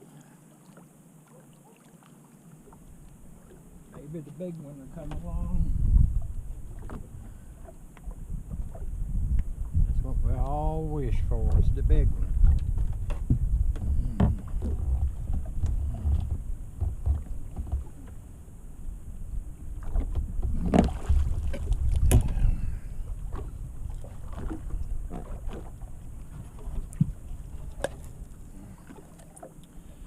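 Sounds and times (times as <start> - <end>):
wind rumbling on microphone: 2.8 - 29.1.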